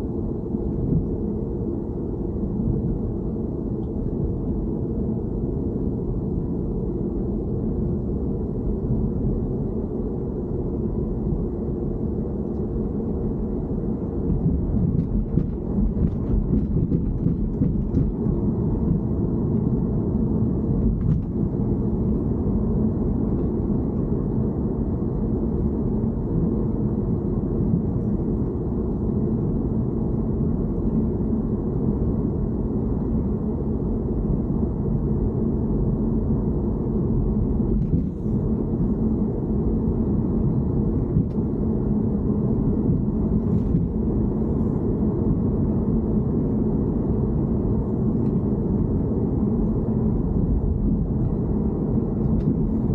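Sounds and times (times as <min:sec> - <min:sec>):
car interior rumble: 0:00.0 - 0:52.9.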